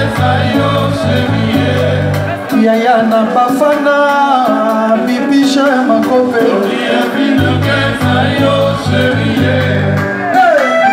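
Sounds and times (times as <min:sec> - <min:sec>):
backing vocalists singing: 0:00.0 - 0:10.9
bass line: 0:00.0 - 0:10.9
man singing lead: 0:00.0 - 0:10.9.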